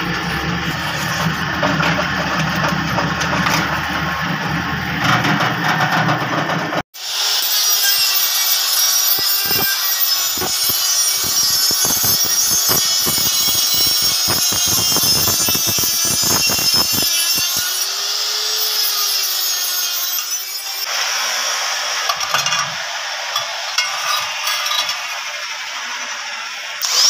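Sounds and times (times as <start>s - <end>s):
grinding stone scraping steel: 0.0s - 6.8s, 7.5s - 17.9s, 18.7s - 20.9s, 22.0s - 27.0s
die grinder whining: 0.0s - 27.0s.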